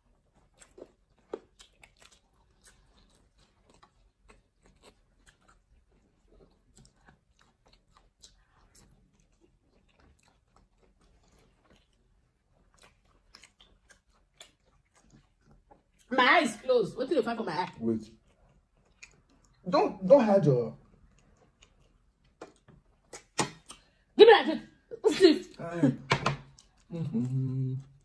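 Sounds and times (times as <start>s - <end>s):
people chewing: 0.0s - 16.6s, 17.2s - 24.2s, 25.4s - 28.0s.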